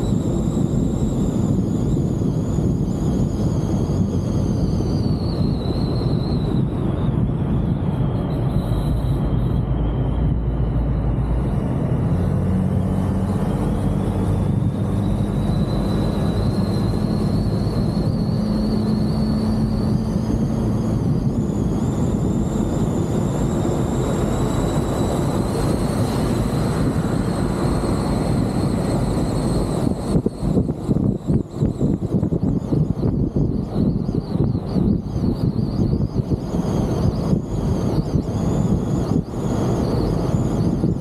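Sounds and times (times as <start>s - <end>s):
car engine and tyre noise: 0.0s - 41.0s
faint high whine: 0.0s - 41.0s
wind rushing over microphone: 0.0s - 41.0s.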